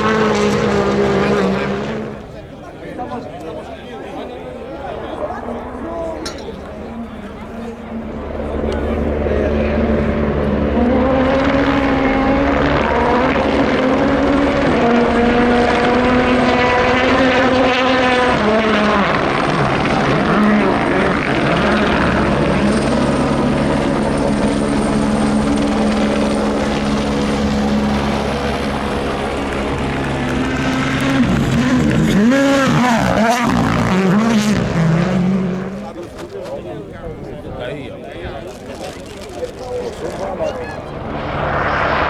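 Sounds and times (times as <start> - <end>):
helicopter rotor and engine drone: 2.1 - 15.3, 18.6 - 33.8, 35.8 - 42.0.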